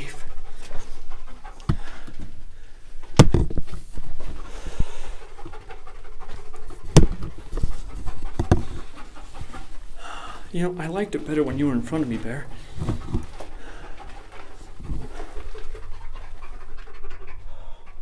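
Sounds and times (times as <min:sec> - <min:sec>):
dog panting: 0:00.0 - 0:03.2, 0:03.9 - 0:18.0.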